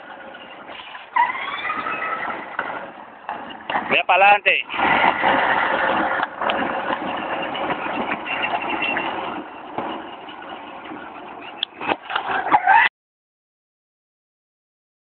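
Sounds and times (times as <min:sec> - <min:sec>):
quad bike motor running: 0:00.0 - 0:12.8.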